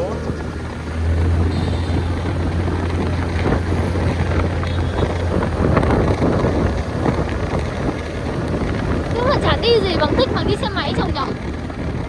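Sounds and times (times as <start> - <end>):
motorbike engine: 0.0 - 12.0
road and traffic noise: 0.0 - 12.0
wind rumble on microphone: 0.0 - 12.0.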